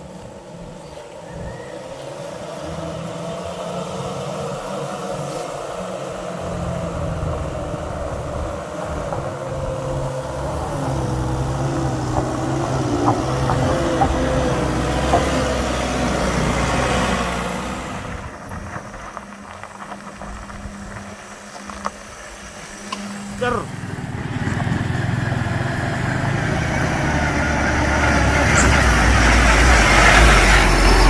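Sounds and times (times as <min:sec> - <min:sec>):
vehicle engine passing: 0:00.0 - 0:31.0.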